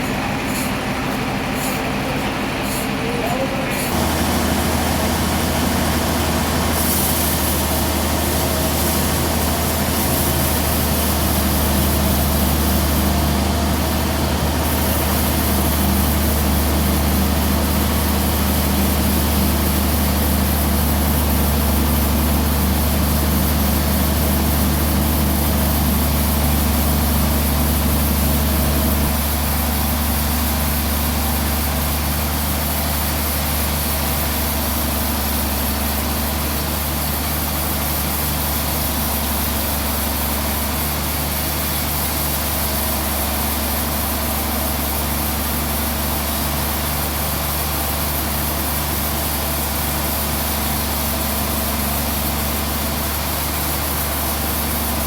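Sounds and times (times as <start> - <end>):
heavy engine droning: 0.0 - 55.0.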